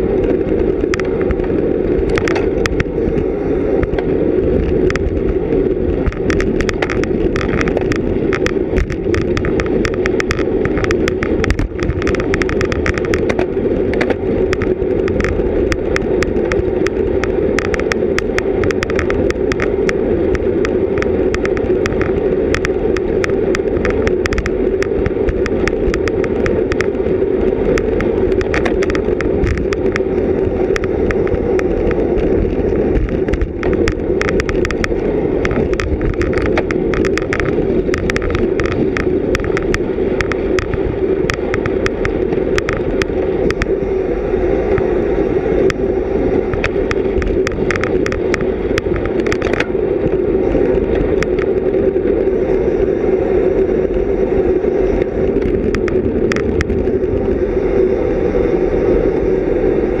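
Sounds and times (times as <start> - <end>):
bicycle clicks and ticks: 0.0 - 60.0
wind and road noise: 0.0 - 60.0.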